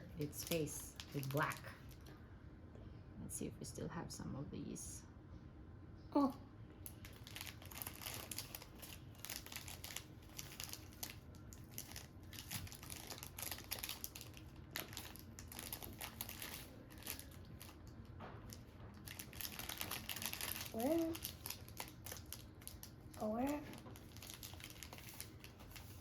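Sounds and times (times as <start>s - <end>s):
wrappers crinkling: 0.1s - 2.1s, 6.9s - 26.0s.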